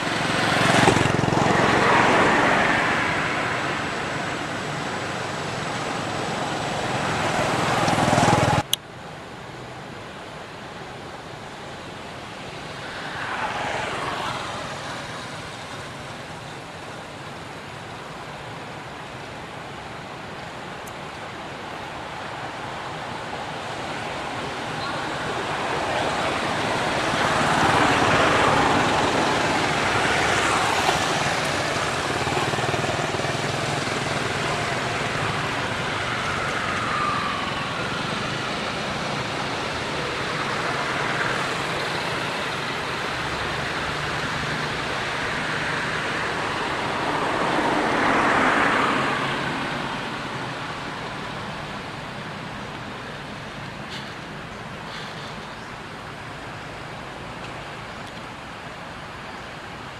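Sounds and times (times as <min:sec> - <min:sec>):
outdoor rushing noise: 0:00.0 - 0:08.7, 0:10.7 - 0:59.1.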